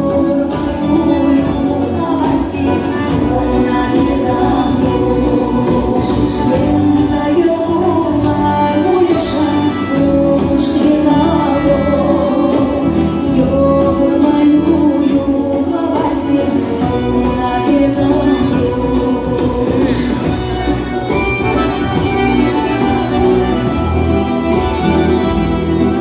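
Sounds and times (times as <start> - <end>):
music with singing: 0.0 - 26.0.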